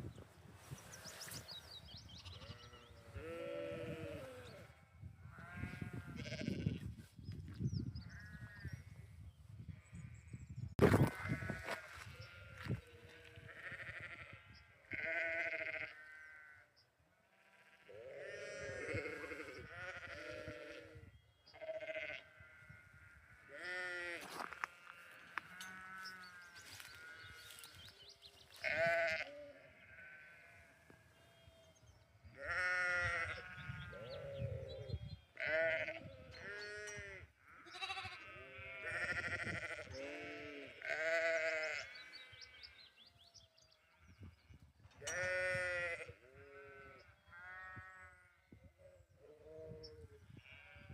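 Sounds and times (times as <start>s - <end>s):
sheep and lambs bleating: 2.0s - 7.0s, 8.0s - 9.0s, 11.0s - 31.5s, 32.3s - 43.0s, 43.6s - 50.9s.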